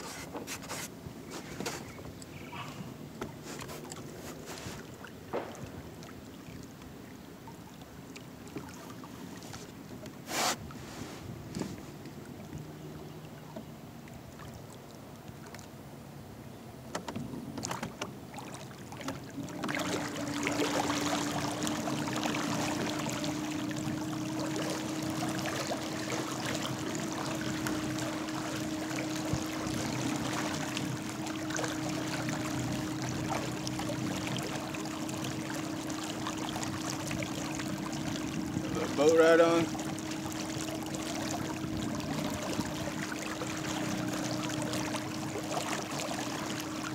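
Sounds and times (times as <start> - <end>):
water rushing past hull: 0.0 - 46.9.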